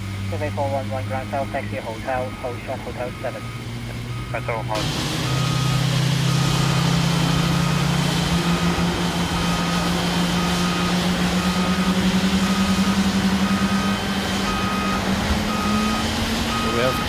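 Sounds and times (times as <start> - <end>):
jet engines idling drone: 0.0 - 17.0
tug warning beeper: 0.3 - 17.0.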